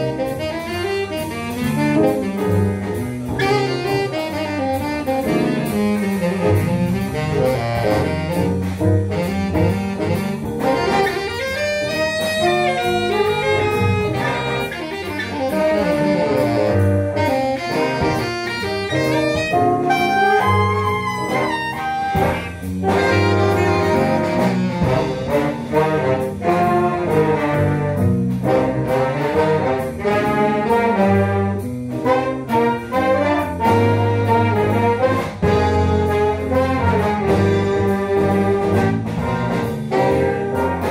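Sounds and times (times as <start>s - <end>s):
jazz big band playing: 0.0s - 40.9s.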